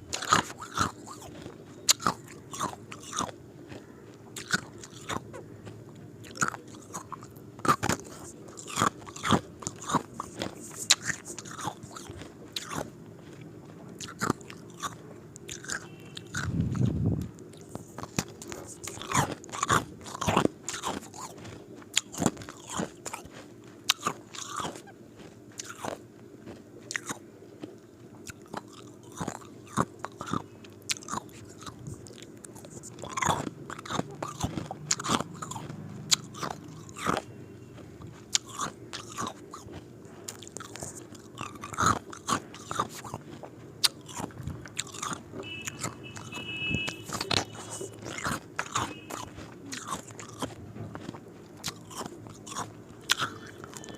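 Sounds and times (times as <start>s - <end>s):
low background hum: 0.0s - 53.9s
person chewing ice cubes: 0.0s - 53.9s.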